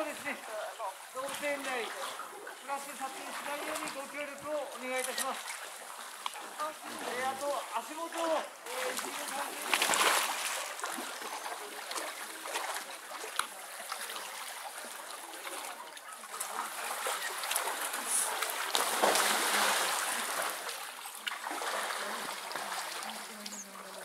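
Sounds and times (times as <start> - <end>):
small splashes and trickles: 0.0 - 24.0
steady water wash: 0.0 - 24.0.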